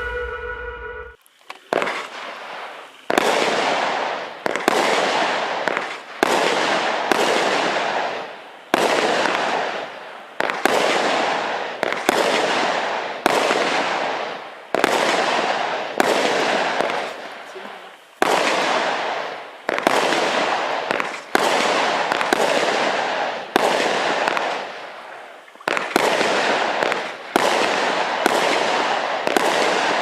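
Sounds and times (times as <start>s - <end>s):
firework bangs: 1.5s - 30.0s.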